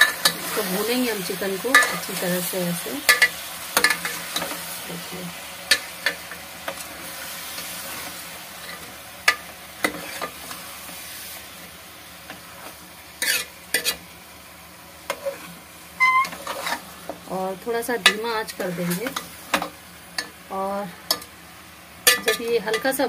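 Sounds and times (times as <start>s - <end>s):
chicken sizzling in a pot: 0.0s - 23.0s.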